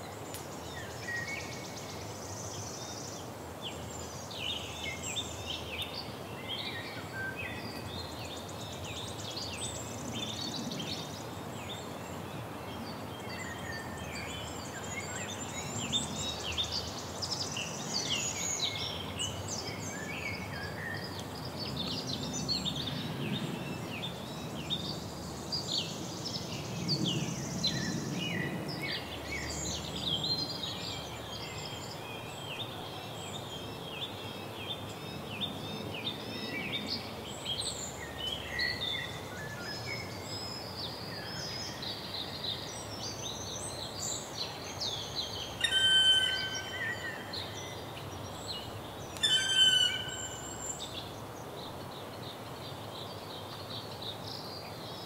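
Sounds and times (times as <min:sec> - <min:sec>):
outdoor background hiss: 0:00.0 - 0:55.0
songbirds chirping and twittering: 0:00.0 - 0:55.0.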